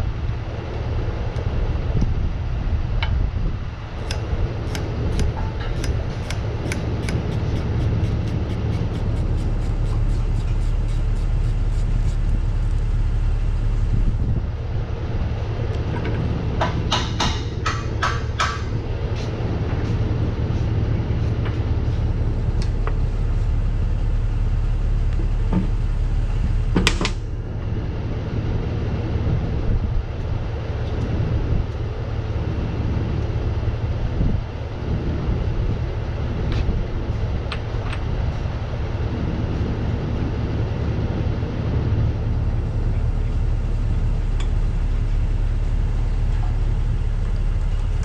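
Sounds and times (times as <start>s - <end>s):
engine rumble: 0.0s - 48.0s.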